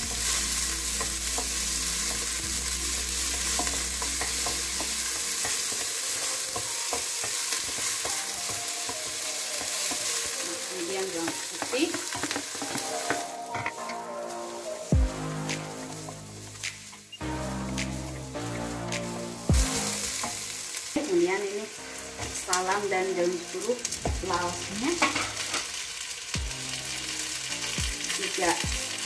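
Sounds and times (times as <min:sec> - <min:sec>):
shallots sizzling in oil: 0:00.0 - 0:29.0.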